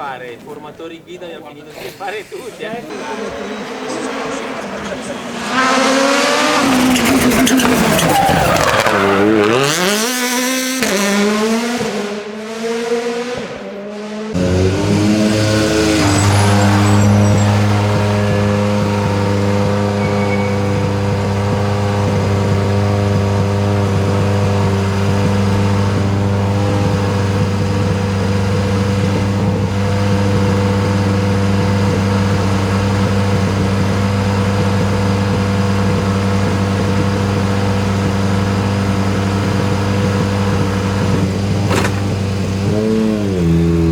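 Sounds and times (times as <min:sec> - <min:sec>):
car engine revving: 0:02.9 - 0:43.9.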